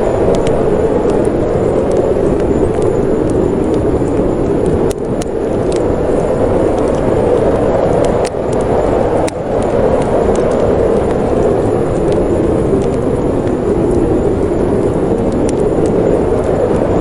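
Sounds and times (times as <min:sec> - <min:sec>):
snowstorm wind rushing: 0:00.0 - 0:17.0
wood fire crackling: 0:00.0 - 0:17.0.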